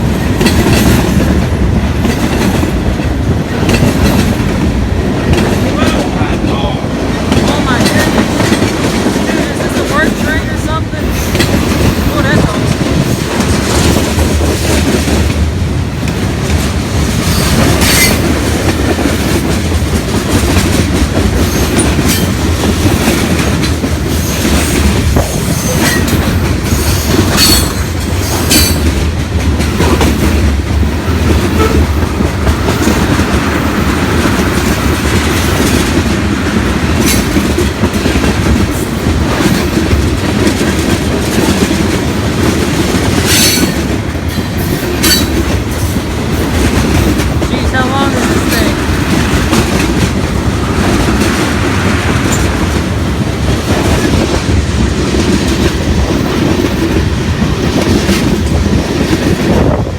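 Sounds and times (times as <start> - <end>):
freight train cars rumbling past: 0.0 - 59.9
wheels clicking on rails: 0.0 - 59.9.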